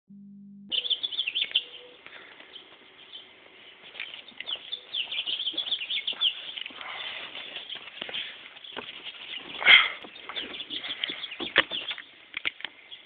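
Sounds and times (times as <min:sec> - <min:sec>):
small birds chirping: 0:00.7 - 0:13.0.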